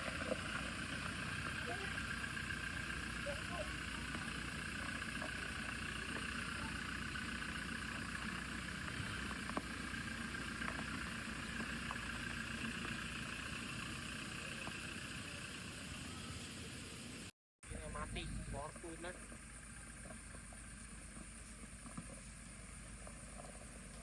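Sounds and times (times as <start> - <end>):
constant low hum: 0.0 - 24.0.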